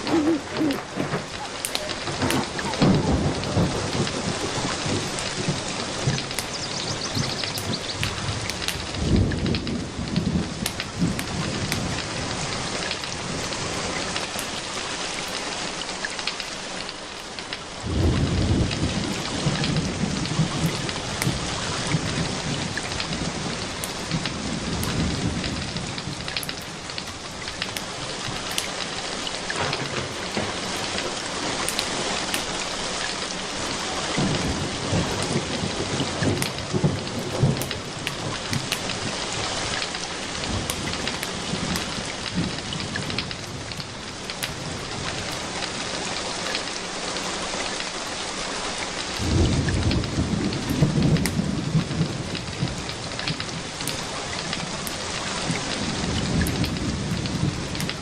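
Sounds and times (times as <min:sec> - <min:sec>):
rolling thunder: 0:00.0 - 0:14.5, 0:17.8 - 0:28.6, 0:29.4 - 0:46.2, 0:49.2 - 0:58.0
steady rain: 0:00.0 - 0:58.0.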